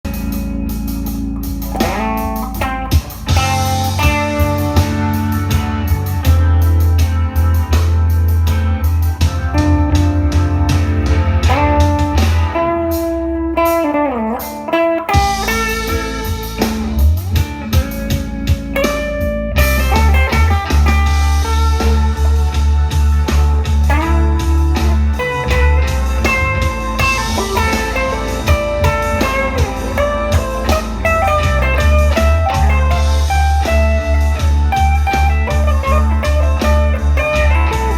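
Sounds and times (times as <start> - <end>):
electric guitar blues lead: 0.0 - 37.9.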